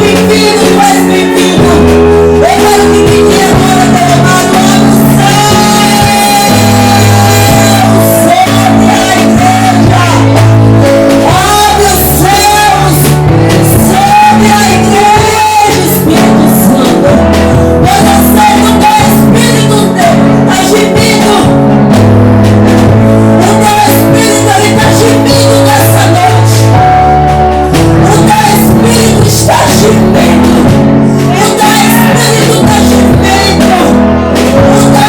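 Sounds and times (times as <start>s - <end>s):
worship band chords and bass: 0.0s - 35.0s.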